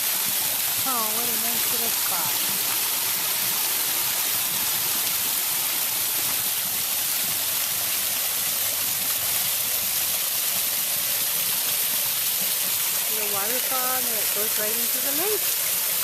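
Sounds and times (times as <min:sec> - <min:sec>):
falling water hiss: 0:00.0 - 0:16.0.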